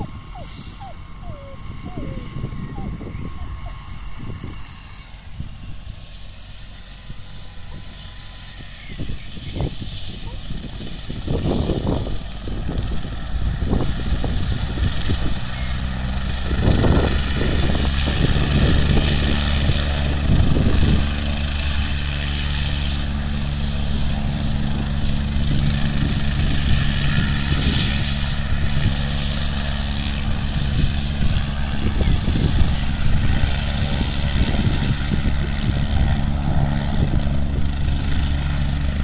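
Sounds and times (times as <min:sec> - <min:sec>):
helicopter rotors throbbing: 0:00.0 - 0:39.0.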